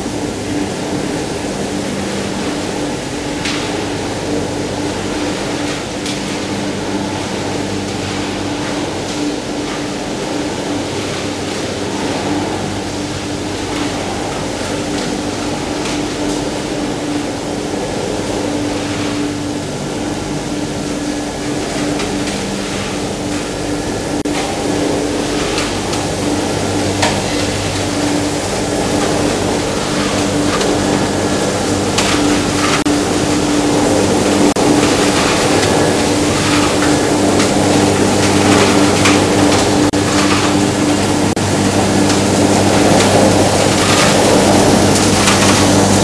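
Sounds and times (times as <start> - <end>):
machinery humming: 0.0 - 46.0.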